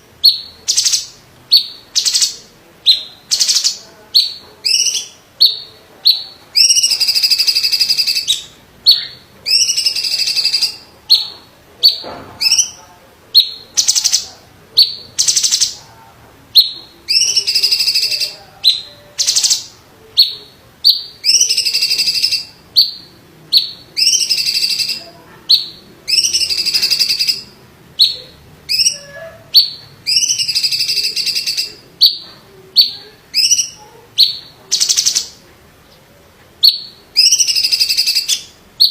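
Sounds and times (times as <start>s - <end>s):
bird singing rolling phrases: 0.0s - 38.9s.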